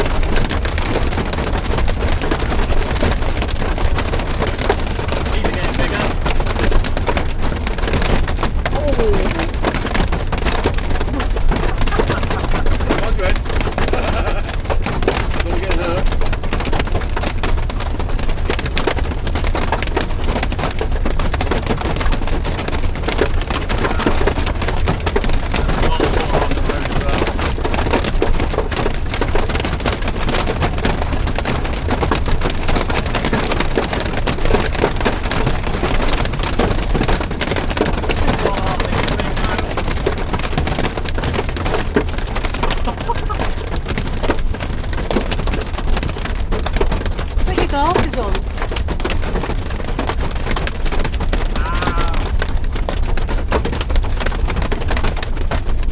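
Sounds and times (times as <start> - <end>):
heavy rain pelting down: 0.0 - 55.9.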